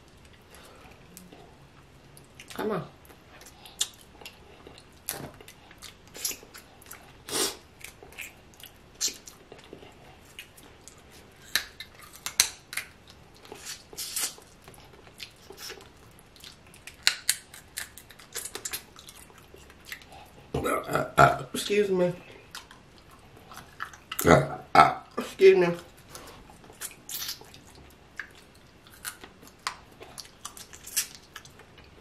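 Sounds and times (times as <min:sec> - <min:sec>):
wet chewing and lip smacking: 0:00.0 - 0:07.2, 0:07.8 - 0:20.4, 0:22.4 - 0:24.2, 0:26.5 - 0:32.0.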